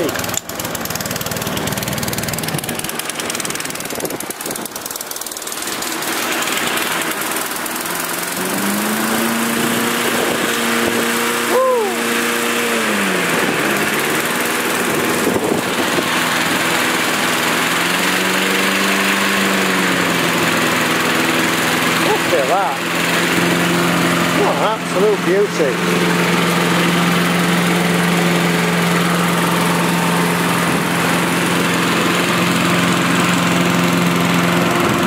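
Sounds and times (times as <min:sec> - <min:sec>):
lawnmower engine running: 0:00.0 - 0:35.0.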